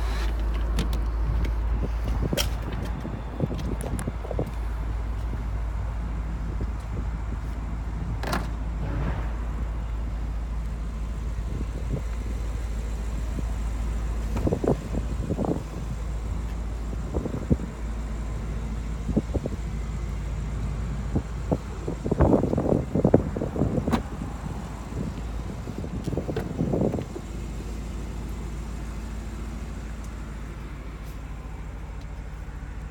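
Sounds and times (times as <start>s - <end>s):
car engine rumbling: 0.0s - 32.9s.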